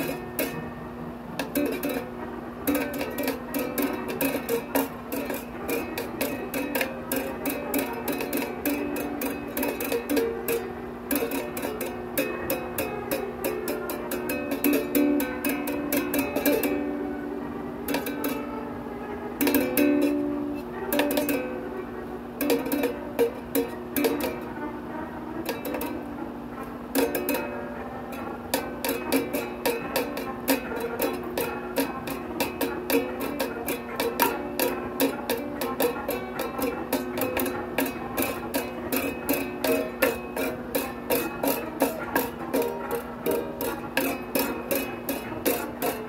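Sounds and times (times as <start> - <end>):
held low note with shifting tones: 0.0 - 46.0
rhythmic sharp clicks: 0.0 - 46.0.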